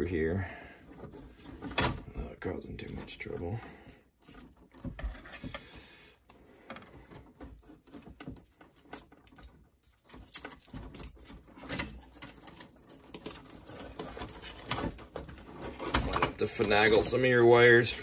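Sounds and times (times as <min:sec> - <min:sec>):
wire scraping against wires: 0:00.8 - 0:18.0.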